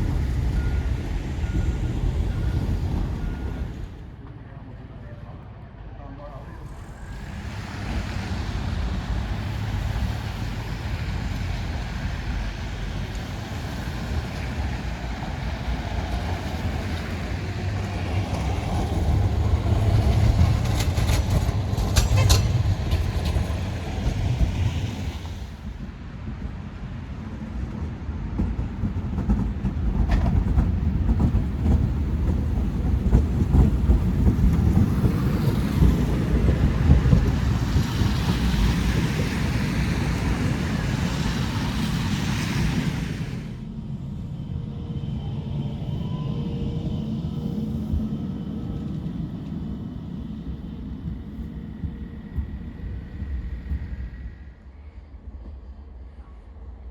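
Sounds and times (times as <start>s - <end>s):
tram rumbling on track: 0.0s - 56.9s.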